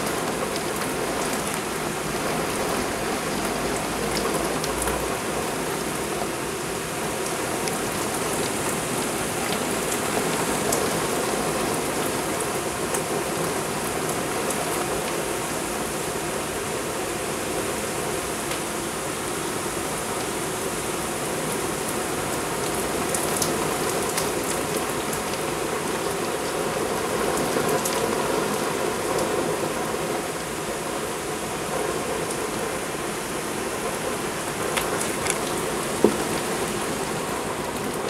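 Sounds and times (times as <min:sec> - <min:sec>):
torrential rain pouring: 0:00.0 - 0:38.0.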